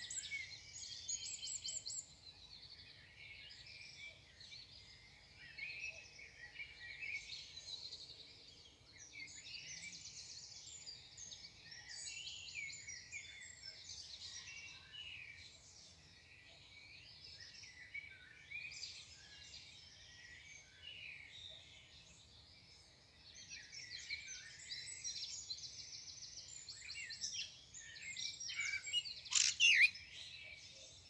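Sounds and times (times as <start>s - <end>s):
songbirds chirping and trilling: 0.0s - 31.0s.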